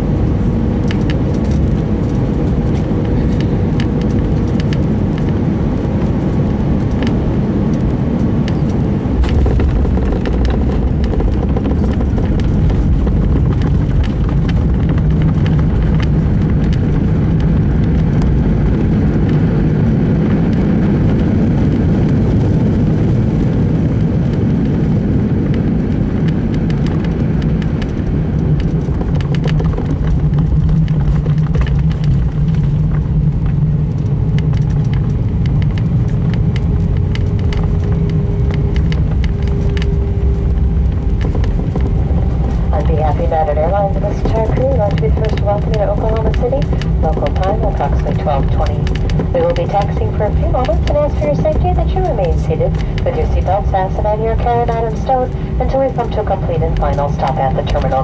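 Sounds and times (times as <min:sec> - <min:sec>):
aircraft engines and wheels rumbling: 0:00.0 - 0:58.0.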